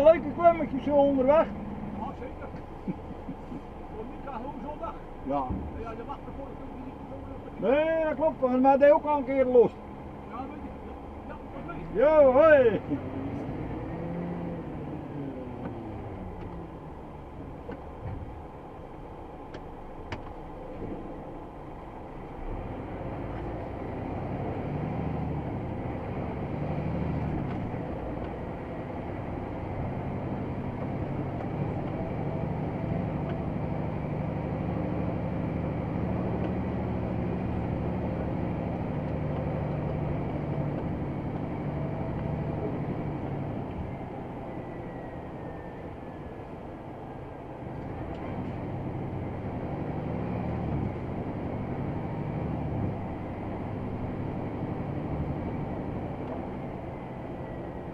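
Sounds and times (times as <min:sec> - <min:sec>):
truck diesel engine under load: 0:00.0 - 0:57.9.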